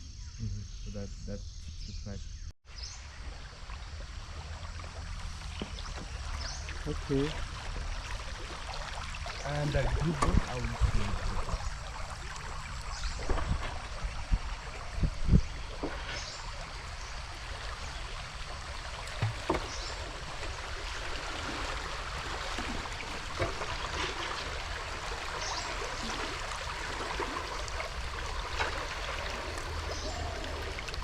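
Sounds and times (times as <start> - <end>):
river water lapping around canoe: 2.7 - 31.0.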